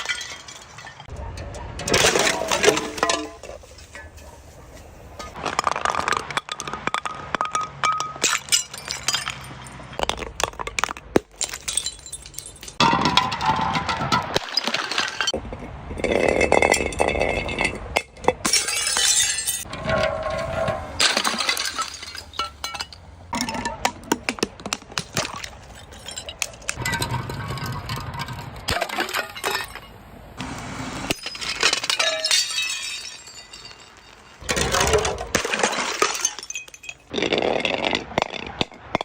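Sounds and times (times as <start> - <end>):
glass bottles shattering: 0.0 - 1.1, 1.8 - 4.2, 5.2 - 15.4, 16.0 - 30.0, 31.0 - 39.0
glass shards clinking: 0.0 - 10.2, 11.3 - 15.4, 16.0 - 23.8, 25.2 - 30.0, 31.1 - 37.4.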